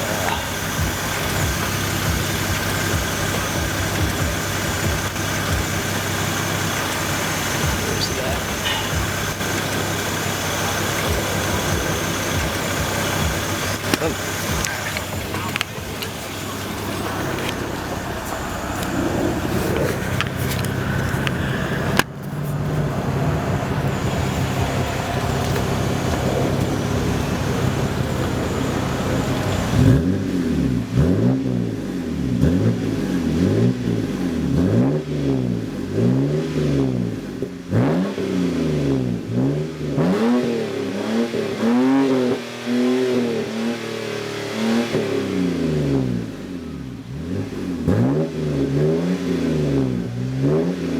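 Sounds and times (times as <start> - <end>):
car exhaust droning and revving: 0.0 - 50.9.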